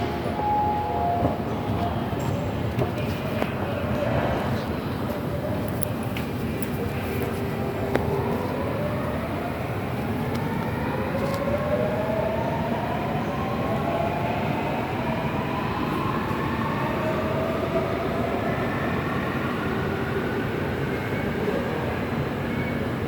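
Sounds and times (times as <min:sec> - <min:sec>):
subway train motors whining: 0:00.0 - 0:23.0
train running noise: 0:00.0 - 0:23.0.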